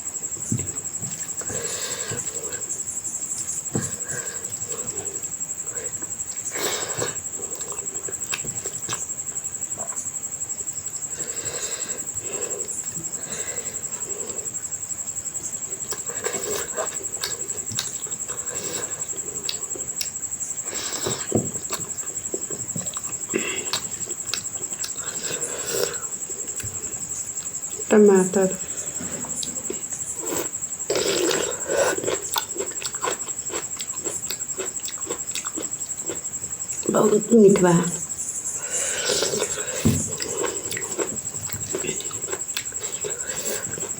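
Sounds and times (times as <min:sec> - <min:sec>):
crickets chirring: 0:00.0 - 0:43.9
chewing sounds: 0:00.7 - 0:10.1, 0:15.7 - 0:27.9, 0:28.7 - 0:36.9, 0:37.6 - 0:43.9.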